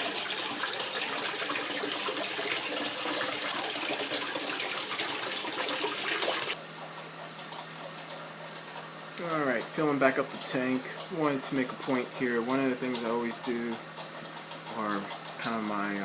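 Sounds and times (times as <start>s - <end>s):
water gushing from hose: 0.0s - 6.6s, 7.5s - 16.0s.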